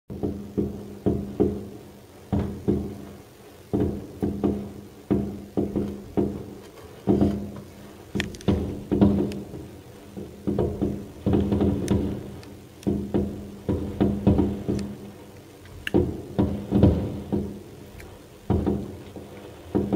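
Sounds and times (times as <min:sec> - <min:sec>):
firework crackle: 0:00.6 - 0:19.9
firework shells bursting: 0:03.7 - 0:19.9.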